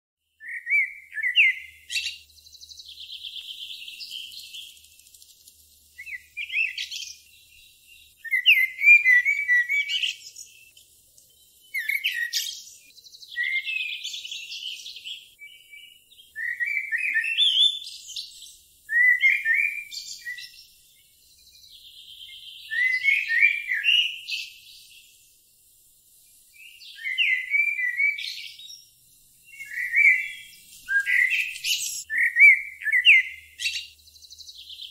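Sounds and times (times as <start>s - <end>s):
songbird chirps and trills: 0.2s - 34.9s.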